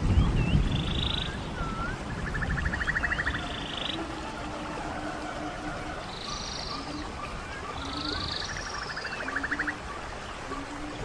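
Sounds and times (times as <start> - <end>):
river rushing: 0.0 - 11.0
songbird singing with buzzy trills: 0.0 - 11.0.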